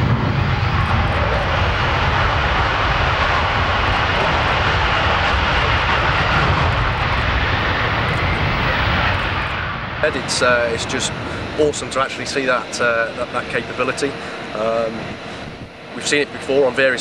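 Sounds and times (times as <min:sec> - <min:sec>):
jet engine at take-off power: 0:00.0 - 0:17.0.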